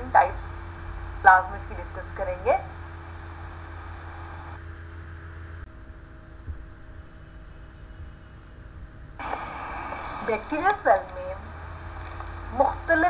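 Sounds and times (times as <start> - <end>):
recording hiss: 0.0 - 4.6, 6.4 - 13.0
recording hum: 0.0 - 13.0.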